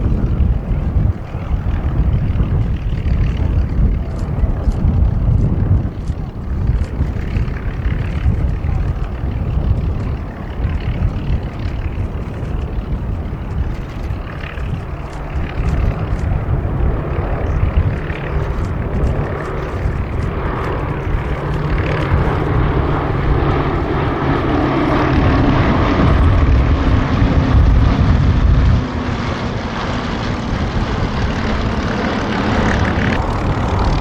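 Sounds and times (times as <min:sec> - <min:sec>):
propeller aircraft engines droning: 0:00.0 - 0:34.0.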